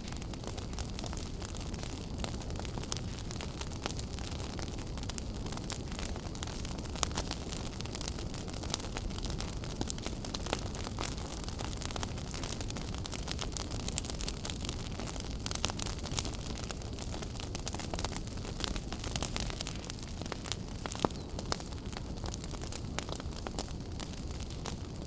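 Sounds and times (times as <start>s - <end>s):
low flame rumble: 0.0s - 25.0s
wood fire crackling and popping: 0.0s - 25.0s.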